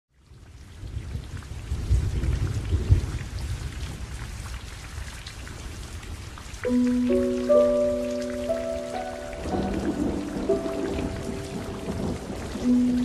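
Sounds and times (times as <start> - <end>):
rain falling on leaves: 0.1 - 13.0.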